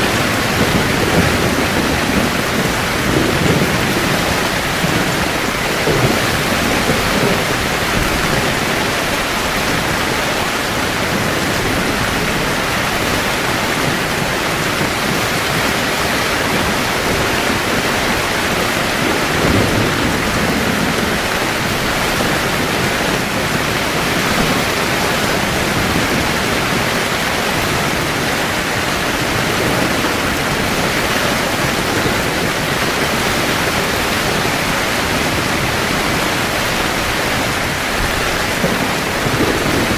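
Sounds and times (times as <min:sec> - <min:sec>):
heavy rain on a tent: 0:00.0 - 0:39.9
thunder rumbles: 0:00.0 - 0:39.9.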